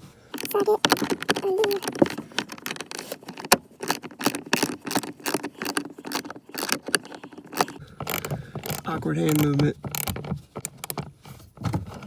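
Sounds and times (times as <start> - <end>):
ratchet wrench clicking: 0.4 - 10.8.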